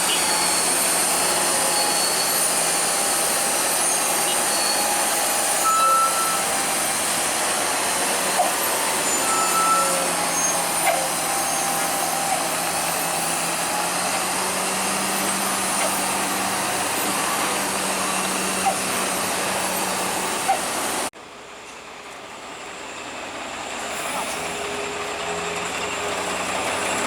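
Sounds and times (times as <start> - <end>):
heavy truck traffic: 0.0 - 27.0.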